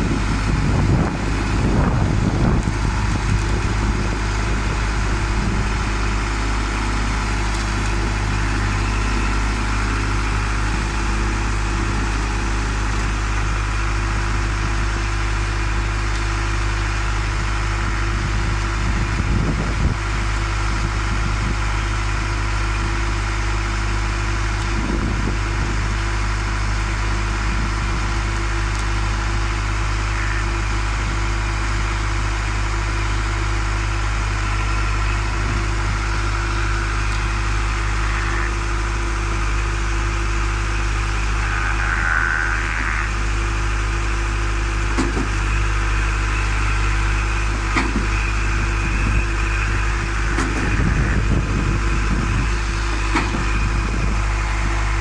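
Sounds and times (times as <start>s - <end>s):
concrete mixer pump drone: 0.0s - 55.0s.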